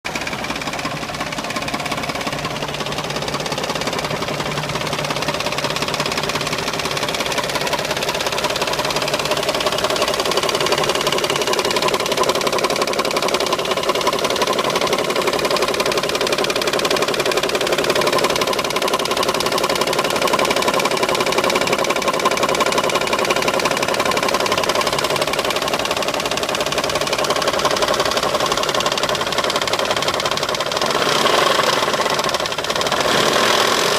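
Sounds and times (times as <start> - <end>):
fast engine knocking: 0.0 - 33.9
car engine running: 0.1 - 33.9.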